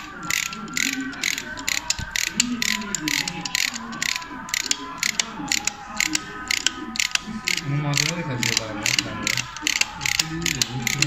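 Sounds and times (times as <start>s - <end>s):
ratchet driver clicking: 0.0s - 11.0s.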